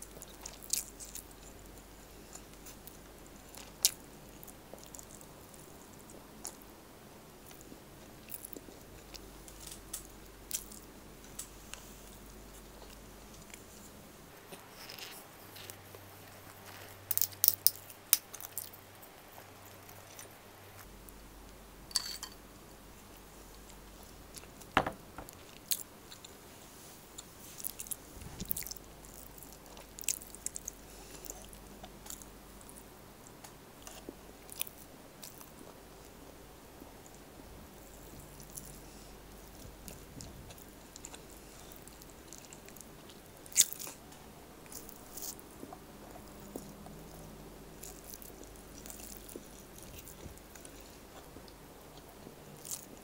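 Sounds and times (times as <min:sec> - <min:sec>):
chewing and wet mouth sounds: 0:00.0 - 0:06.7, 0:07.4 - 0:20.9, 0:27.1 - 0:36.2, 0:36.8 - 0:53.0.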